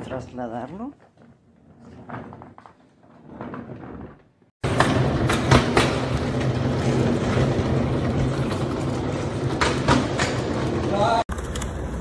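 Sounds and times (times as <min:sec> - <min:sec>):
hand truck wheels rumbling: 0:00.0 - 0:12.0.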